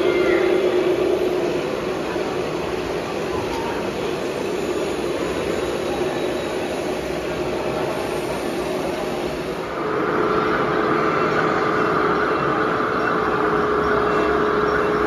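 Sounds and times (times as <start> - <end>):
louder hum with high tones: 0.0 - 15.0
model machines mechanical hum: 0.0 - 15.0.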